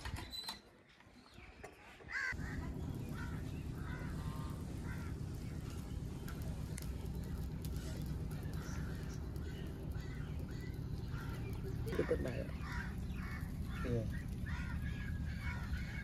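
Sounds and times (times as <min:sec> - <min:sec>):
birds calling: 0:00.0 - 0:16.0
steady low rumble: 0:02.3 - 0:16.0.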